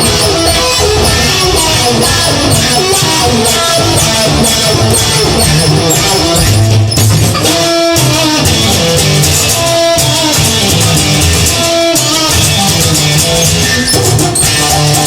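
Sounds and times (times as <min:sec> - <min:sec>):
blues-rock guitar music: 0:00.0 - 0:15.0
drum kit: 0:00.0 - 0:15.0.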